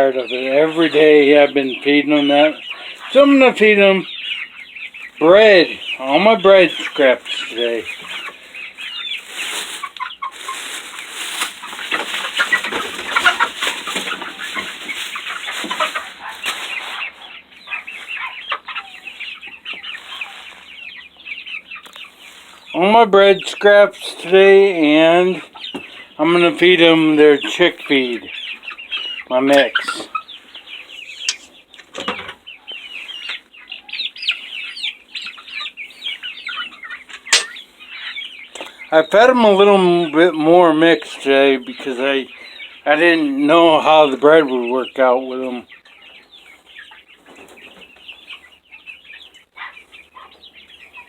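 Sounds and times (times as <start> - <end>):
young chickens clucking and cheeping: 0.0 - 51.0.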